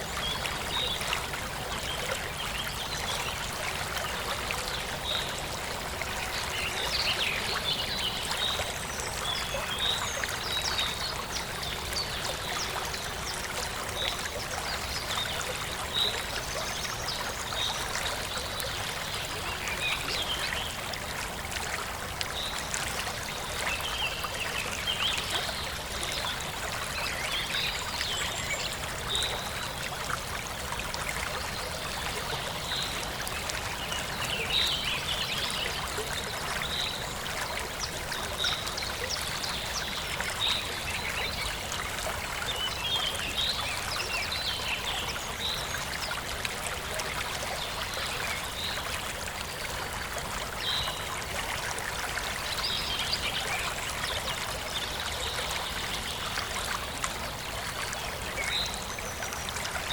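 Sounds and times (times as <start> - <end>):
forest stream flowing: 0.0 - 59.9.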